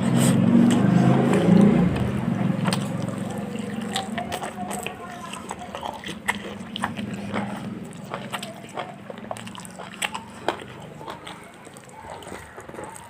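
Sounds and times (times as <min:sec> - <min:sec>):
chewing and mouth clicks: 0:00.0 - 0:13.0
crunchy bites: 0:00.0 - 0:13.0.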